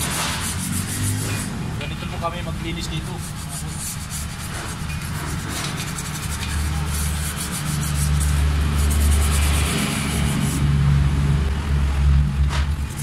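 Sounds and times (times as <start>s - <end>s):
brushes scrubbing metal: 0.0s - 10.6s, 12.7s - 13.0s.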